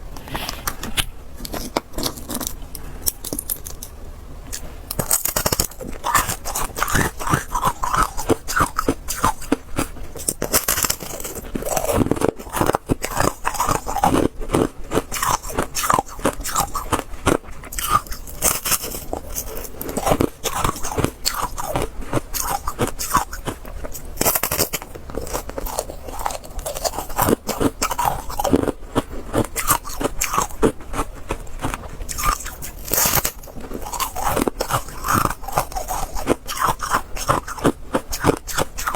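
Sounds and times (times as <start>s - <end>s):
ice being chewed: 0.2s - 38.9s.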